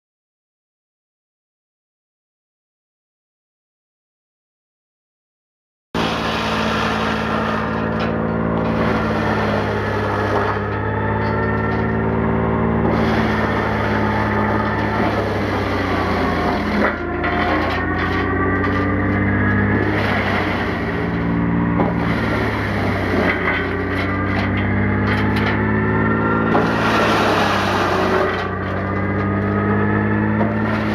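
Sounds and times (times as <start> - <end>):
tractor engine hum: 6.0 - 30.9
wood chipper grinding: 6.0 - 30.9.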